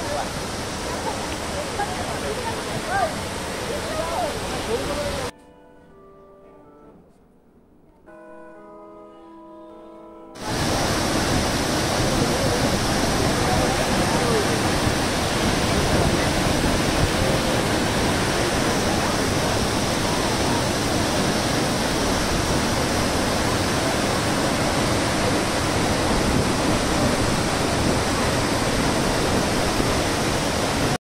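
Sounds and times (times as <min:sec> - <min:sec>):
waterfall rushing over rock: 0:00.0 - 0:05.3, 0:10.4 - 0:31.0.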